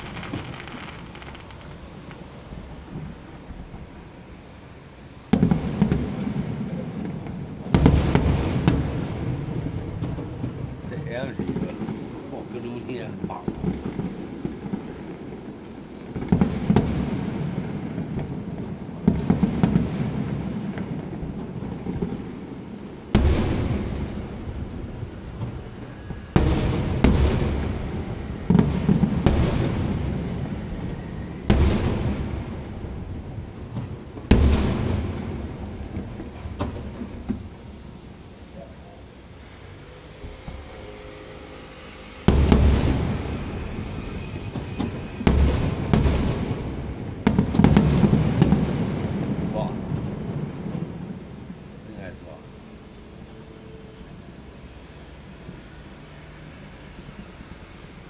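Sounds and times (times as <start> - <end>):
electronic firecrackers crackling: 0.0 - 58.0.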